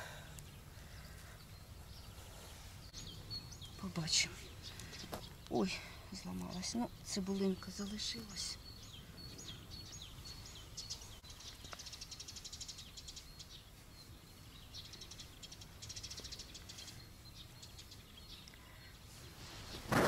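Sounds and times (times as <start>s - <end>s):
small birds singing: 0.0s - 20.0s.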